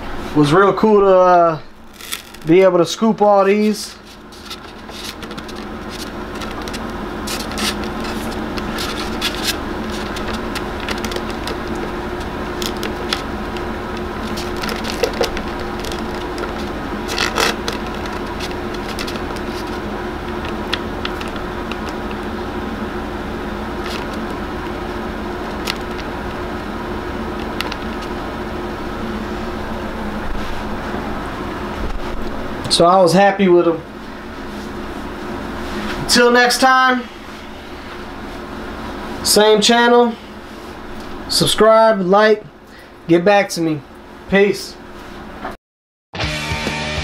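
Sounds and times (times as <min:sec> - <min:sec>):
steady hum: 0:00.0 - 0:45.6.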